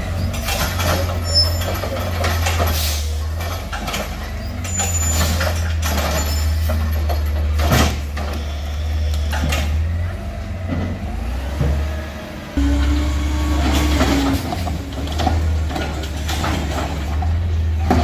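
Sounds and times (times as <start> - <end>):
garbage truck diesel engine humming: 0.0 - 18.0.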